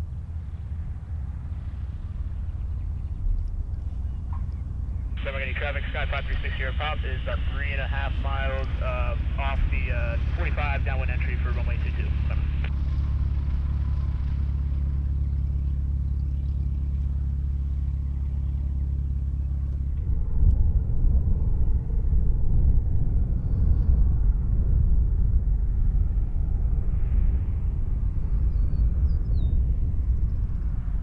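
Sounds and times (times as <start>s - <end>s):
light aircraft engine drone: 0.0s - 31.0s.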